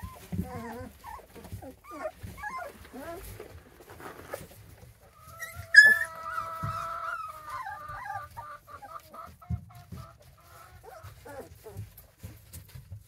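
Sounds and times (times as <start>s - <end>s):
puppies whining and whimpering: 0.0s - 9.4s, 10.1s - 12.2s.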